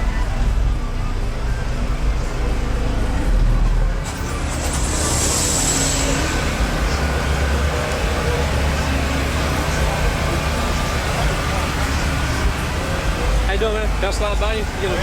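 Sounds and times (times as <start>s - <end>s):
deep bass from car subwoofers: 0.0s - 15.0s.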